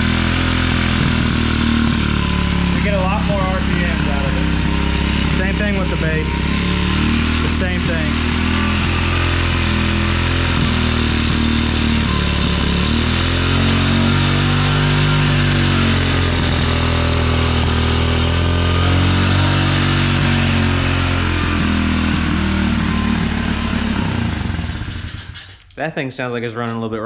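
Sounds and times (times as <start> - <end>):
pit bike engine idling rough: 0.0 - 25.7.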